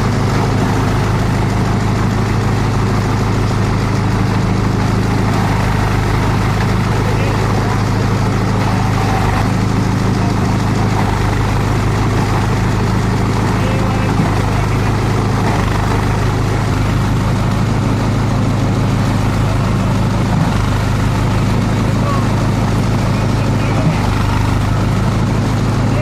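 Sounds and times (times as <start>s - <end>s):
grinder machine droning: 0.0s - 26.0s.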